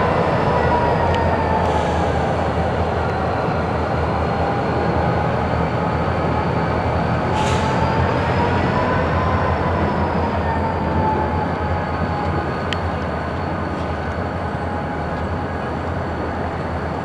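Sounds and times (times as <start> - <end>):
train rumble with high whine: 0.0 - 17.0.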